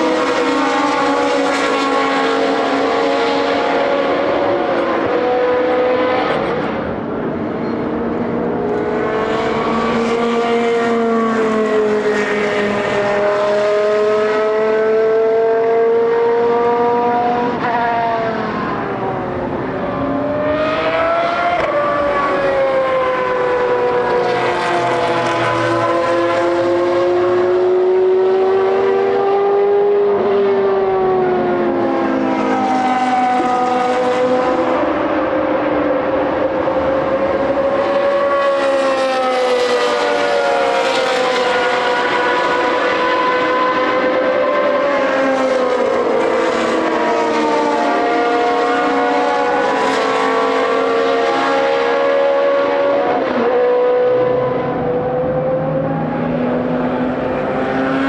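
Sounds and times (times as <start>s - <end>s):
race car engines at high revs: 0.0s - 58.0s.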